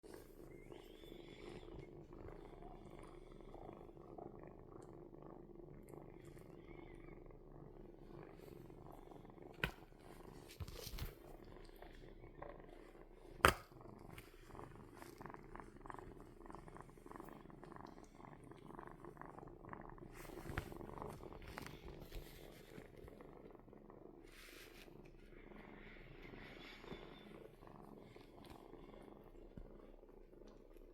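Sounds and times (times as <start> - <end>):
kitten purring: 0.0 - 30.9.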